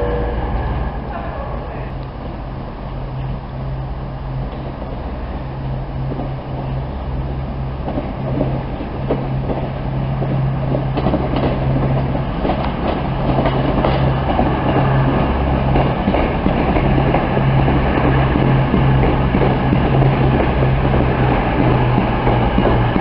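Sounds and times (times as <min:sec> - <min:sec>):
diesel train engine hum: 0:00.0 - 0:23.0
wheels rolling on rails: 0:04.4 - 0:23.0.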